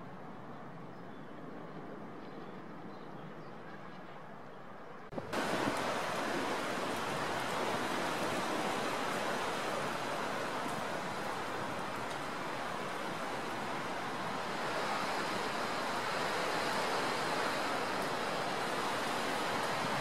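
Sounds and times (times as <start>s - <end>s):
distant jet engines: 0.0s - 20.0s.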